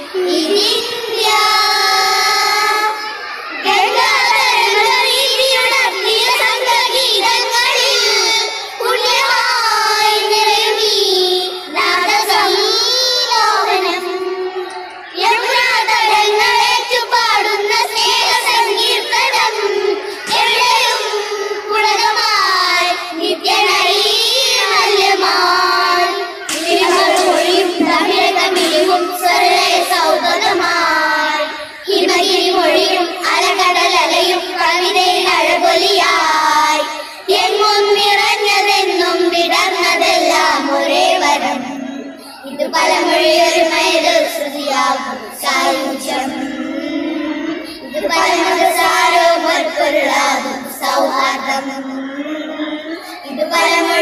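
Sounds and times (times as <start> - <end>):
children singing together: 0.0 - 54.0.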